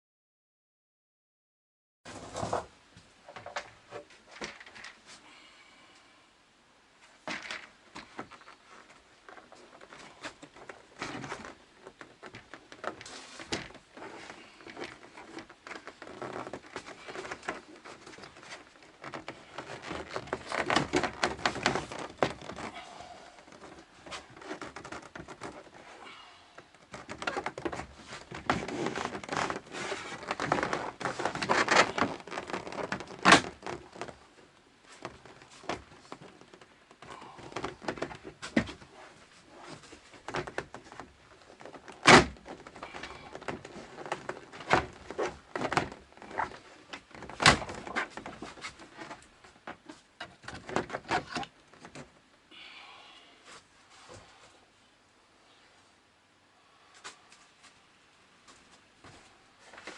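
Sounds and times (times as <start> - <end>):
rustling and crinkling: 2.1 - 5.4, 7.0 - 52.6, 56.8 - 59.9.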